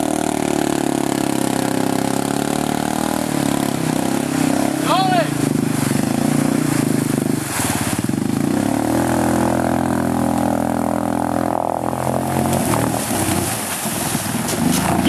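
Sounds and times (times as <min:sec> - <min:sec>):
atv engine under load: 0:00.0 - 0:15.0.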